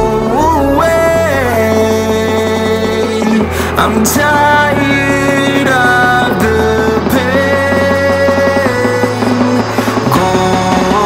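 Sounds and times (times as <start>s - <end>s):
gliding sung vocal: 0.0s - 11.0s
steady bass: 0.0s - 11.0s.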